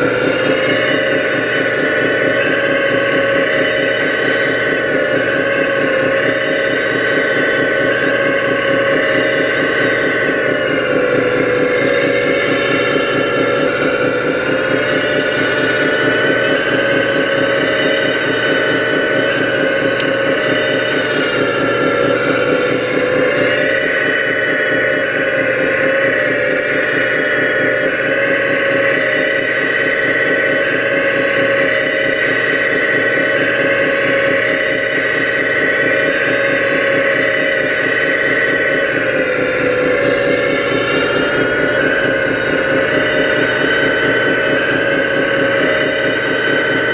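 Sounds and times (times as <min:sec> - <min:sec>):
hydraulic pump whining: 0:00.0 - 0:46.9.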